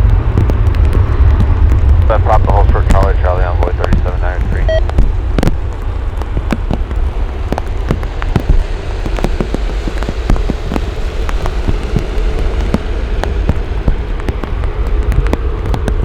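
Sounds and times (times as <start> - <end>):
heavy raindrops tapping: 0.0 - 16.0
steady low rumble: 0.0 - 16.0.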